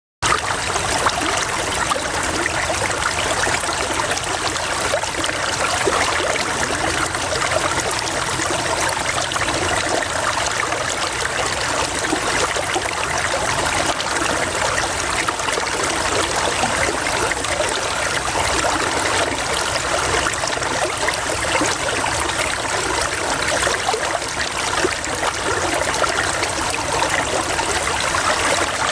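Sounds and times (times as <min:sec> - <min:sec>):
stream water flowing: 0:00.2 - 0:28.9.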